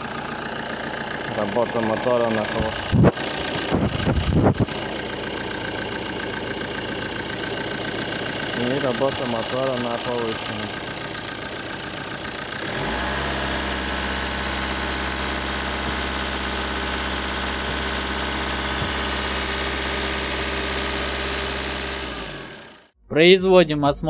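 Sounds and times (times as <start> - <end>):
diesel engine running at raised revs: 0.0 - 23.0.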